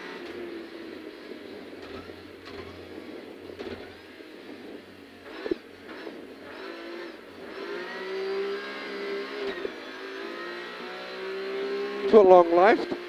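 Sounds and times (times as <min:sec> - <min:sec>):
rally car engine from inside cabin: 0:00.0 - 0:13.0.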